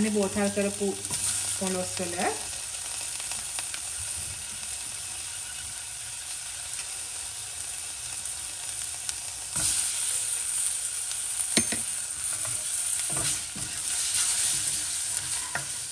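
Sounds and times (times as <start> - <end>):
oil sizzling in a pot: 0.0 - 15.9.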